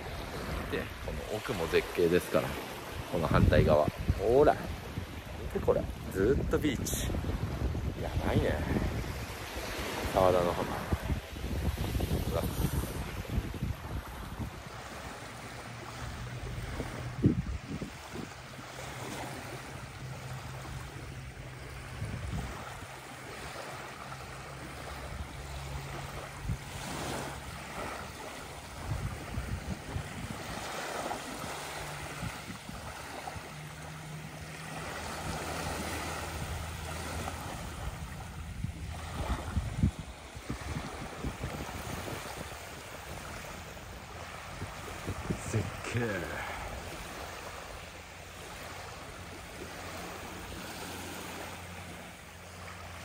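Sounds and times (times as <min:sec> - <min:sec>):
wind buffeting microphone: 0:00.0 - 0:51.7
small waves lapping on sand: 0:00.0 - 0:53.0.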